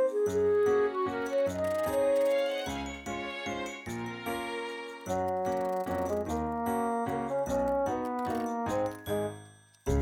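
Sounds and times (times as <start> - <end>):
bright background music: 0.0 - 10.0.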